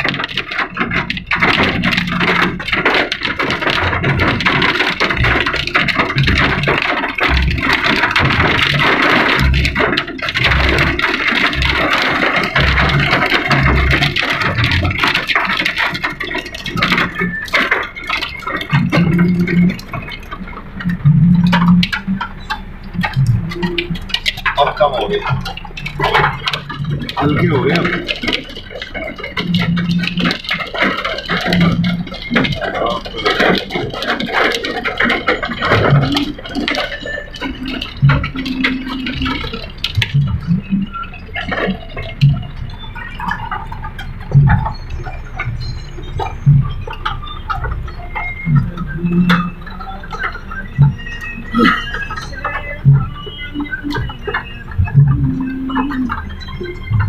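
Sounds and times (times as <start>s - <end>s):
low hum: 0.0s - 57.0s
low thumps: 0.0s - 57.0s
rain and hail hitting a car: 0.0s - 57.0s.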